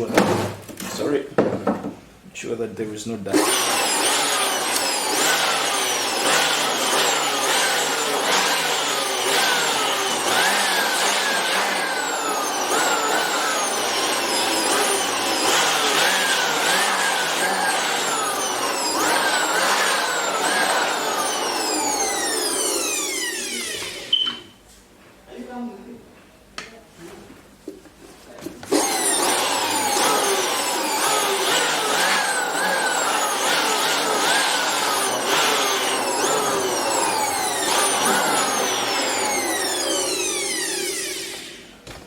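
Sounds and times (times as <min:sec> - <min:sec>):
electric blower motor running: 0:03.3 - 0:24.2, 0:28.7 - 0:41.8.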